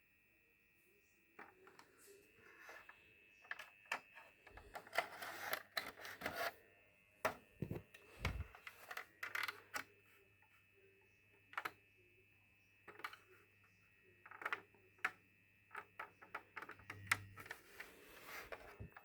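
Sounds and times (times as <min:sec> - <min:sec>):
faint high whine: 0:00.0 - 0:15.8
low internal whirring hum: 0:00.0 - 0:19.0.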